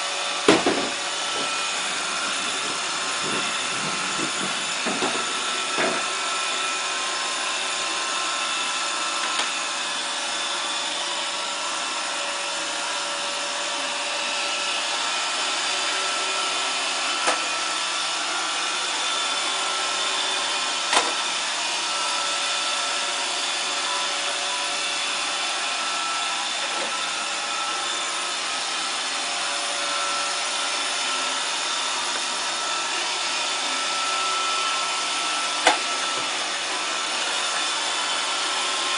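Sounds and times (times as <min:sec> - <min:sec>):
robot vacuum whirring: 0:00.0 - 0:38.9.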